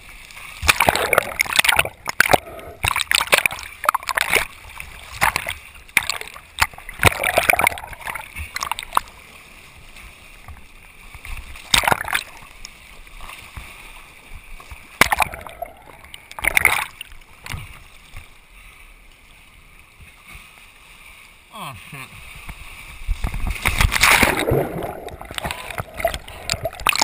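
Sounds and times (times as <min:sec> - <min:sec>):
sea water splashing over camera: 0:00.0 - 0:27.0.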